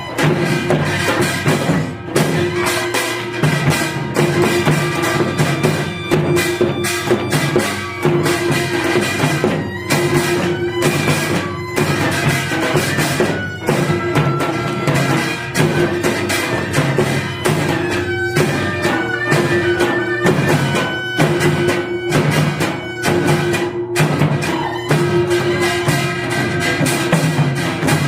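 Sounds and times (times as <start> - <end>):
sharp drum strokes: 0.0 - 28.0
reed and bowed string melody: 2.2 - 27.1.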